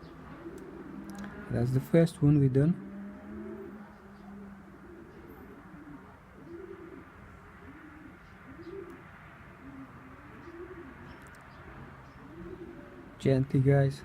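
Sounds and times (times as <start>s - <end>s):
pigeons cooing: 0.0s - 13.3s.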